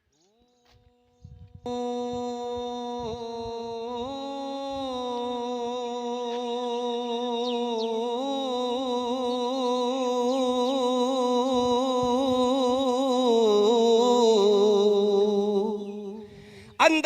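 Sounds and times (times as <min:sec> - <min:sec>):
man singing a long note: 0:01.7 - 0:17.0.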